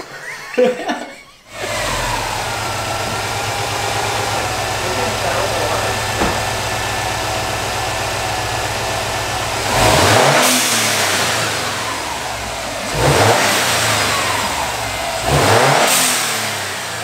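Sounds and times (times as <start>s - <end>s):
car engine idling and revving: 1.5s - 17.0s.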